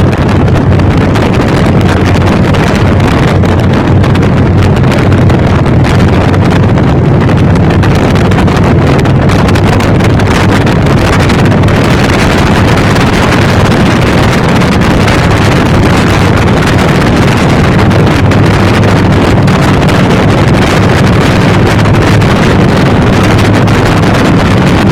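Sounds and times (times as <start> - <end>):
motorcycle engine running: 0.0 - 24.9
wind noise on microphone: 0.0 - 24.9.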